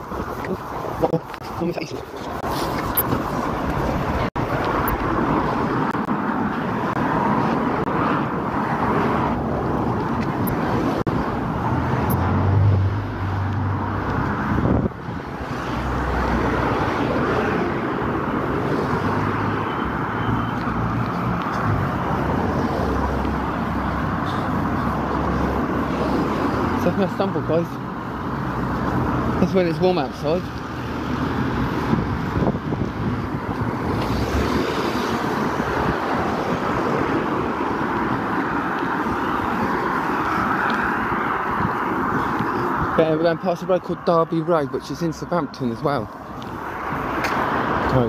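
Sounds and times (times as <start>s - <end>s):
vehicles passing on street: 0.0s - 48.0s.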